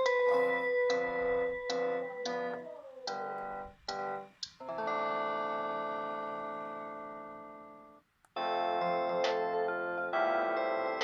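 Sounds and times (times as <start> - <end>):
piano-like phone ringtone melody: 0.0 - 11.0.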